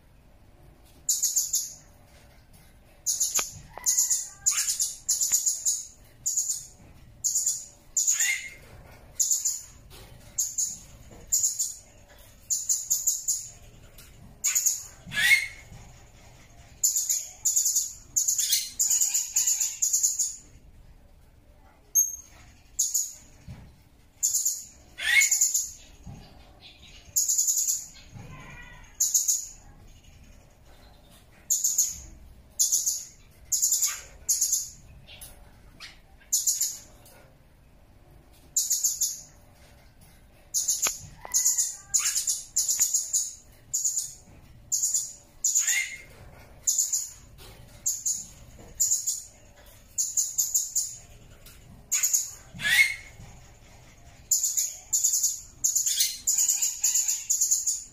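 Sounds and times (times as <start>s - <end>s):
parrot chirping: 0.9s - 2.0s, 3.0s - 20.5s, 24.2s - 37.2s, 38.4s - 39.7s, 40.4s - 57.9s.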